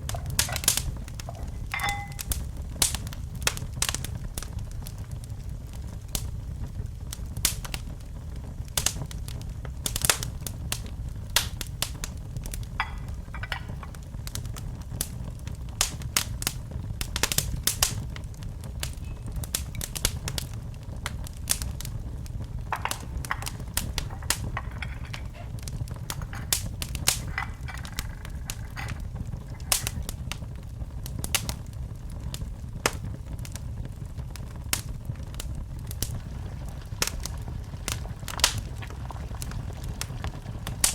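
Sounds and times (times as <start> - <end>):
wood fire crackling in fireplace: 0.0 - 40.9.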